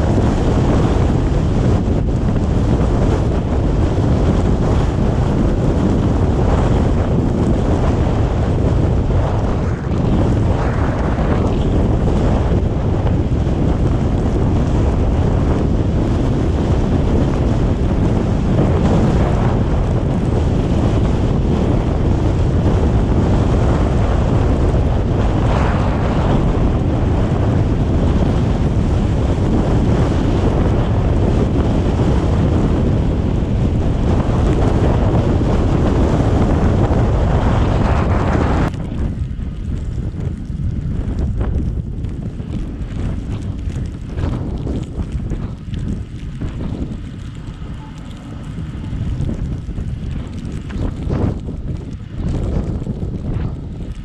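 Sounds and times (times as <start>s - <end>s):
wind and road noise: 0.0s - 54.0s
wind buffeting microphone: 0.0s - 54.0s.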